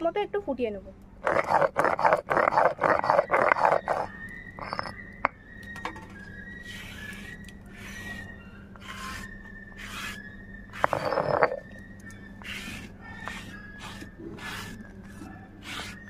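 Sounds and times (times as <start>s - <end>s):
stone roller grinding on stone slab: 1.2s - 5.0s, 5.9s - 16.0s
high wavering whine: 2.1s - 16.0s.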